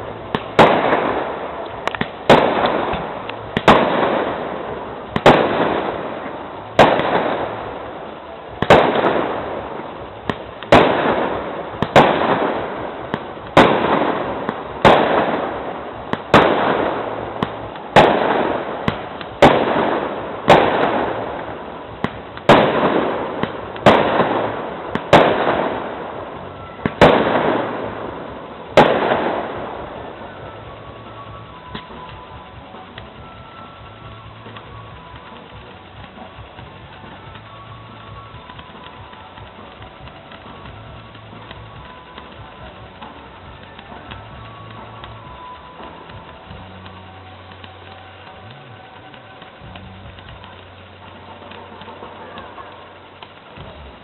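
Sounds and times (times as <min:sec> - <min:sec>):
firework shells bursting: 0:00.0 - 0:54.0
small firework pops: 0:00.0 - 0:54.0.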